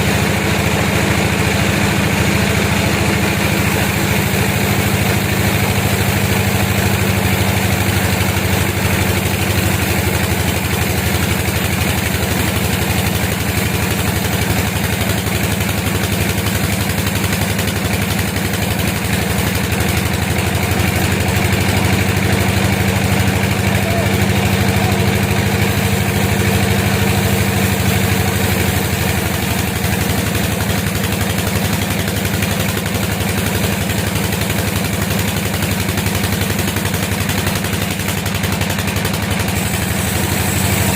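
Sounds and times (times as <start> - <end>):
sawmill engine drone: 0.0 - 40.9.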